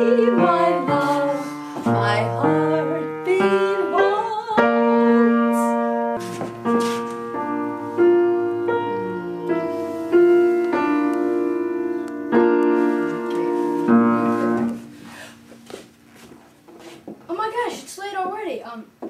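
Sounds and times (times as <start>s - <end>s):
piano played slowly: 0.0s - 16.1s.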